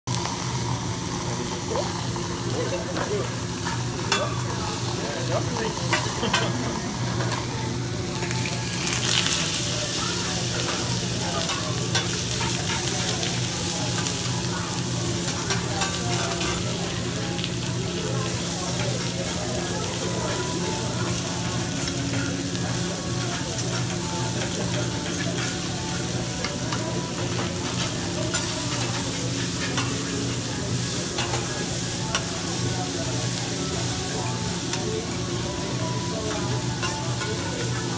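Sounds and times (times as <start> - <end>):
vegetables sizzling on a griddle: 0.1 - 37.9.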